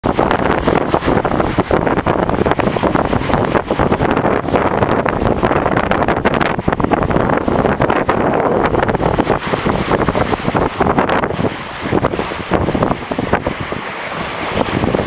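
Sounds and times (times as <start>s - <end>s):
sea rushing along hull: 0.0s - 15.0s
strong wind buffeting microphone: 0.0s - 15.0s.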